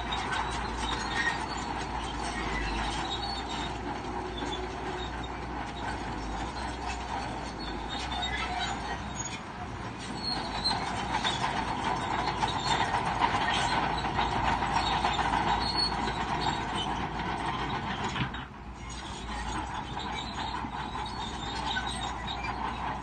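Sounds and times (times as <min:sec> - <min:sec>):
bulldozer engine under load: 0:00.0 - 0:23.0
squealing clanking steel tracks: 0:00.0 - 0:23.0.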